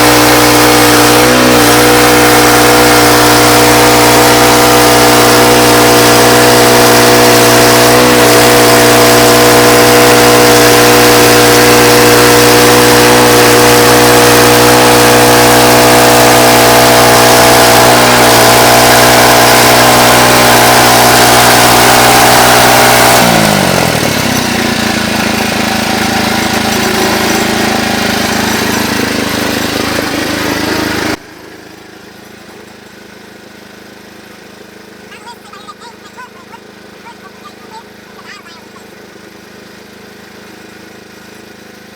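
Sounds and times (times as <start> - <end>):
weaker steady machine noise: 0.0 - 40.6
sawmill machinery running: 0.0 - 41.9.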